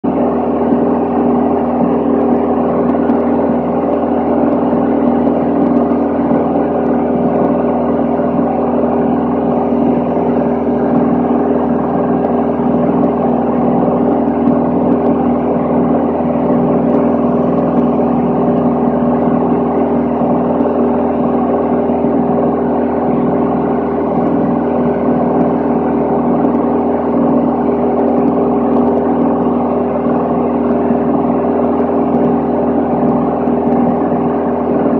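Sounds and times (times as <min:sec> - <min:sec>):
aircraft engine droning: 0:00.0 - 0:34.9.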